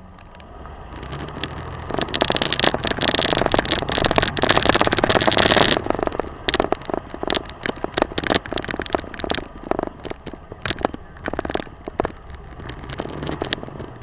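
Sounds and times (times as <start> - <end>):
low engine rumble: 0.0 - 14.0
truck body rattling and knocking: 1.0 - 14.0.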